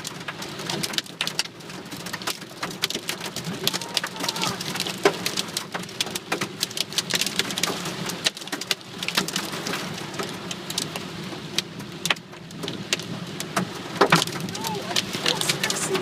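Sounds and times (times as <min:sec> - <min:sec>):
hail pelting car roof: 0:00.0 - 0:16.0.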